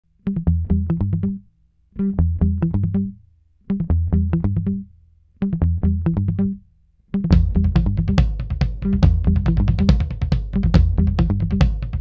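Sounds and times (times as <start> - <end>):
music riff over bass: 0.3 - 12.0.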